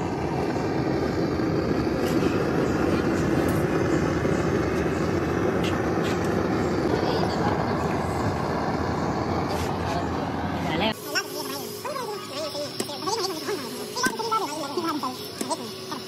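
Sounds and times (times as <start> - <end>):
machine running: 0.0 - 16.0.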